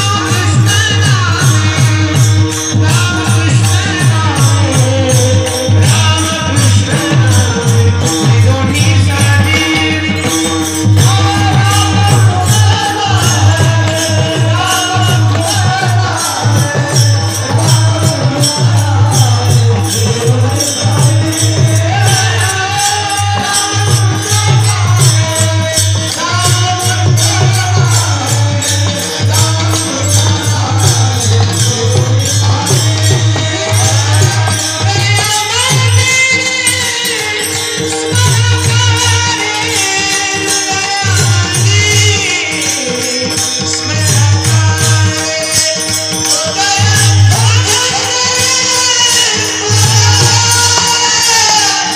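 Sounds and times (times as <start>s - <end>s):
jingling beat: 0.0s - 51.9s
person singing devotional melody: 0.0s - 51.9s.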